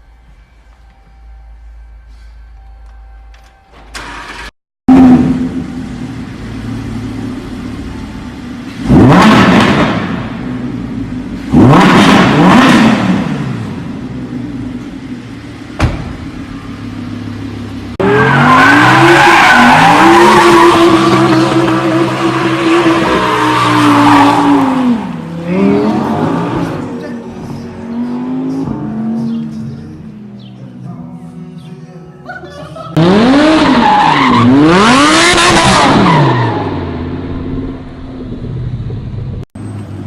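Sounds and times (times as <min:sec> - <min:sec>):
car engine revving: 0:04.0 - 0:30.4, 0:32.9 - 0:39.4.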